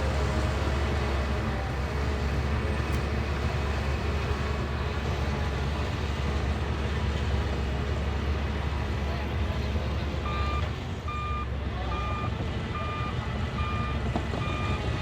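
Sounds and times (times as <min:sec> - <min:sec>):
bulldozer diesel engine rumbling: 0:00.0 - 0:15.0.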